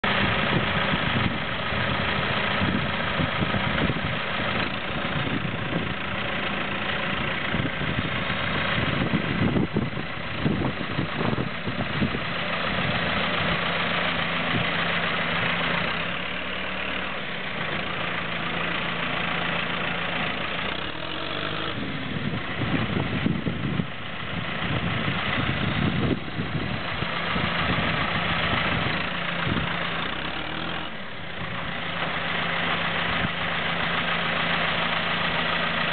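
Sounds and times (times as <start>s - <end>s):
tractor diesel engine idling: 0.0s - 35.9s.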